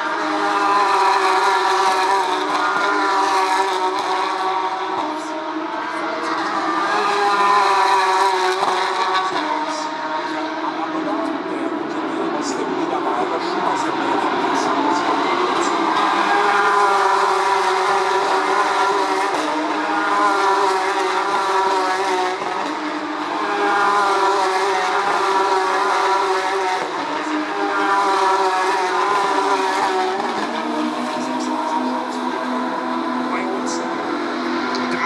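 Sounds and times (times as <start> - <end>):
race cars passing at high revs: 0.0 - 35.0.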